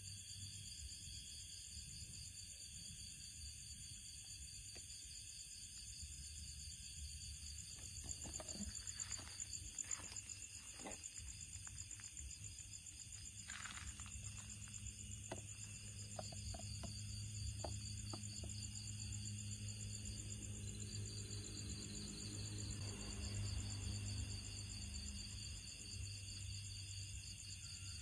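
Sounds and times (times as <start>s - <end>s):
night insects chirring: 0.0s - 28.0s.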